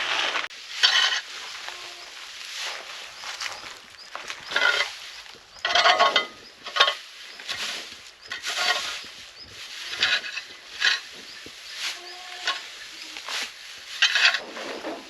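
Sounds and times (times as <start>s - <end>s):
straw rustling and crackling: 0.0s - 15.0s.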